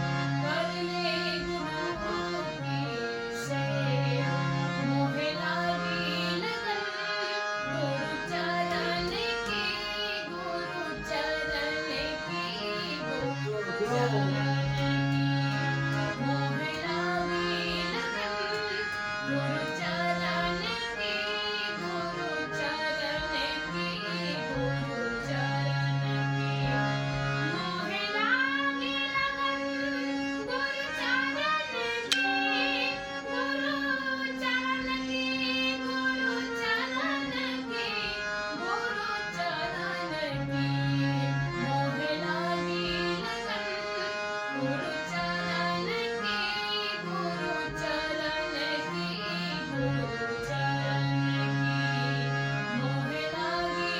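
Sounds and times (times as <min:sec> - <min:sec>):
harmonium chords: 0:00.0 - 0:53.9
woman singing devotional song: 0:00.0 - 0:53.9.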